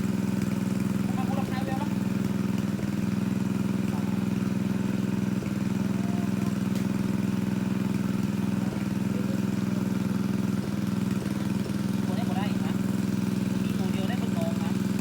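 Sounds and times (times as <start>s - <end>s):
water pump engine running: 0.0s - 15.0s.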